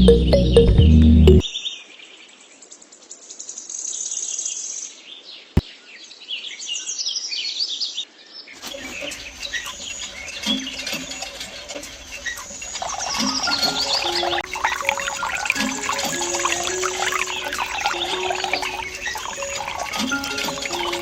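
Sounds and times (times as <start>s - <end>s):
outdoor background noise: 1.4s - 21.0s
small birds chirping: 1.5s - 21.0s.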